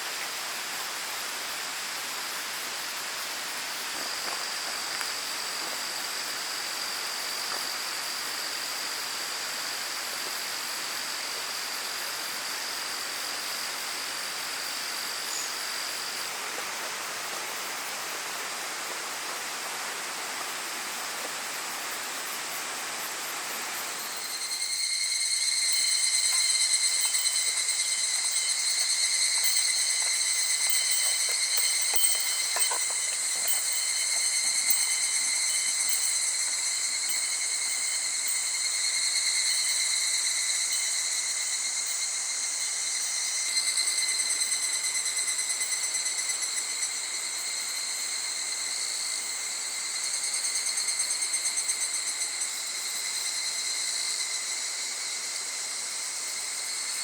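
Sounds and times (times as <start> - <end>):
cicadas chorus: 0.0 - 57.0.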